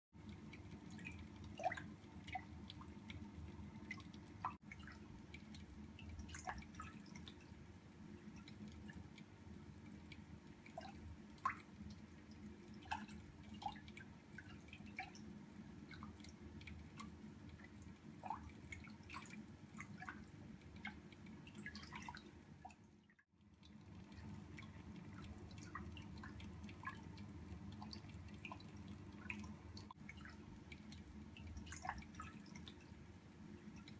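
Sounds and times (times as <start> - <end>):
water drips and bubbling plinks: 0.2 - 33.9.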